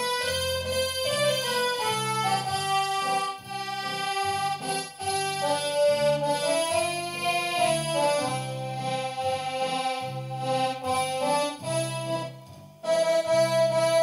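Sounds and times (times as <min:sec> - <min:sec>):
accordion bass notes and chords: 0:00.0 - 0:14.0
accordion melody: 0:00.0 - 0:14.0.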